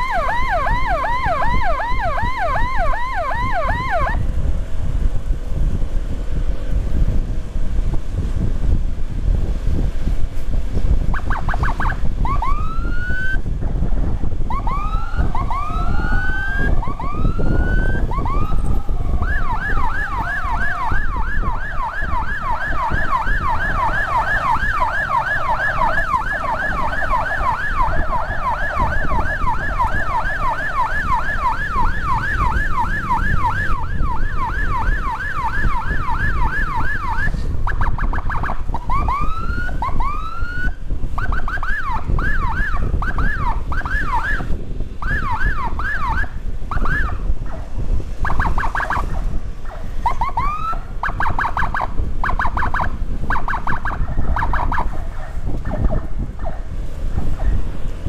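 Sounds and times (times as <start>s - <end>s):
electronic siren whooping and yelping: 0.0s - 4.2s, 11.1s - 13.4s, 14.5s - 47.6s, 48.2s - 56.6s
engine and wind rumble: 0.0s - 58.0s.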